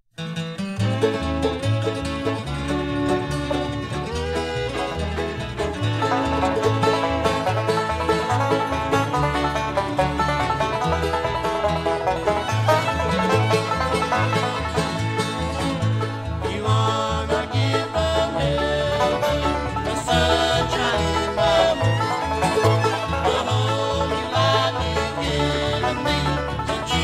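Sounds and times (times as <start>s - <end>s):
banjo: 0.2s - 27.0s
guitar: 0.2s - 27.0s
mandolin: 0.2s - 27.0s
fiddle: 0.3s - 27.0s
bass alternating low notes: 0.8s - 27.0s.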